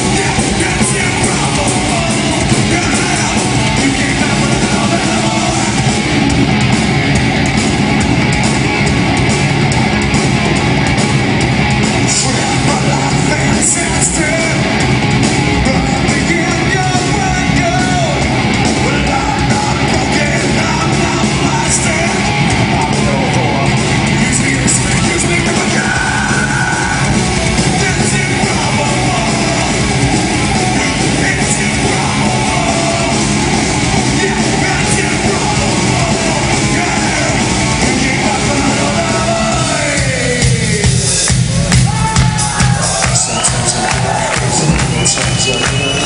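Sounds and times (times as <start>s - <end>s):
singer yelling: 0.0s - 6.1s, 12.0s - 14.8s, 15.6s - 46.0s
heavy rock band playing: 0.0s - 46.0s.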